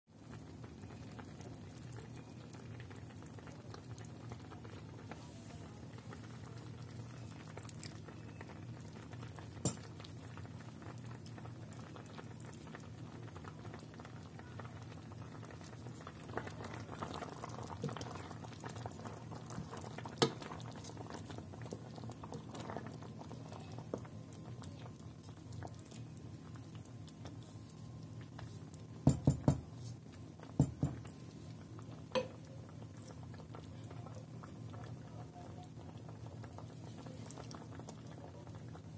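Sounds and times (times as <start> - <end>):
jam bubbling in a pot: 0.1 - 38.9.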